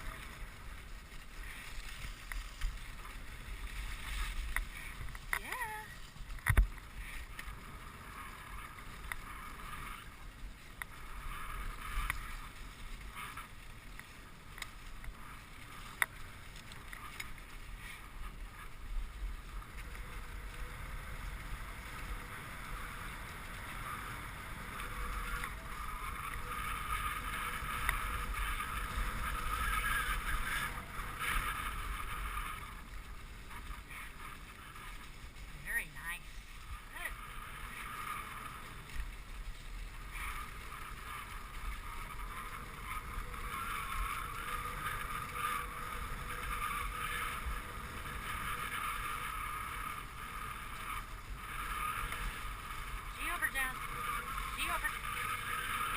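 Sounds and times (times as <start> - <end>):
sled runners hissing on snow: 0.0 - 55.9.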